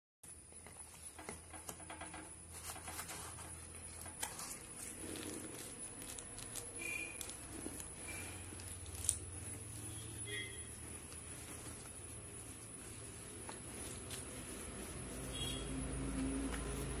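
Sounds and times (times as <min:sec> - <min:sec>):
cardboard and paper rustling: 0:00.6 - 0:17.0.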